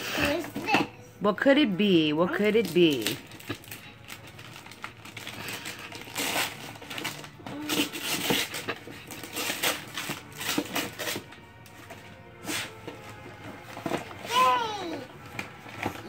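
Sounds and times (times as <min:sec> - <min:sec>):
tissue paper rustling: 0:02.4 - 0:16.0
wrapping paper tearing: 0:02.5 - 0:16.0.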